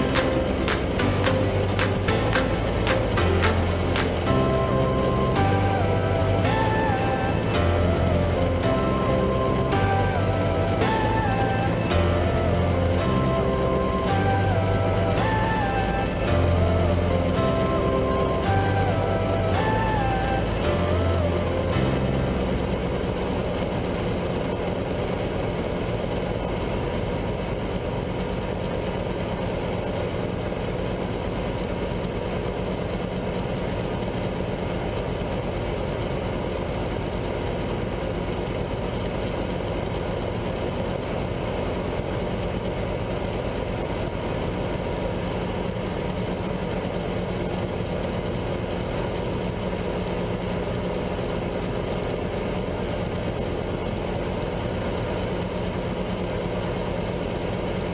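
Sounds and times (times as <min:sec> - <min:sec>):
helicopter engine and rotor drone: 0:00.0 - 0:57.9.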